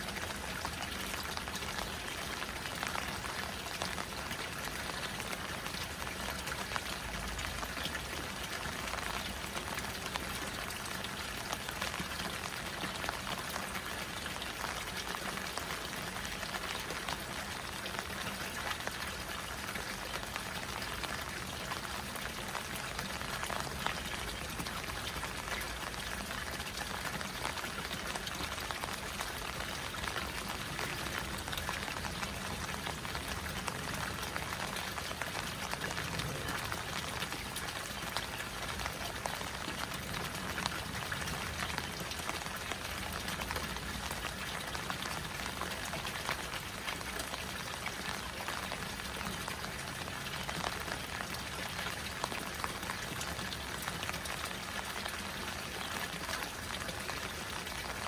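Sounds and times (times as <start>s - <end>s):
rain falling on a pond: 0.0s - 58.0s
water pouring into a pond: 0.0s - 58.0s.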